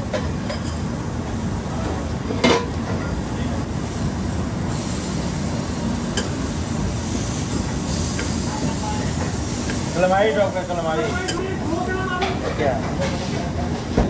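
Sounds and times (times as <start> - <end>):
patties sizzling on griddle: 0.0 - 13.6.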